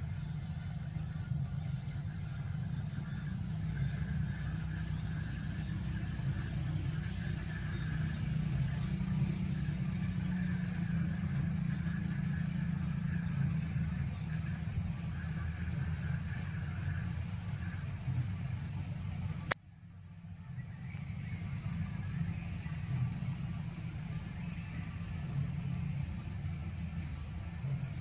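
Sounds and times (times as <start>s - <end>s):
high-pitched whine: 0.0s - 28.0s
low engine rumble: 0.0s - 28.0s.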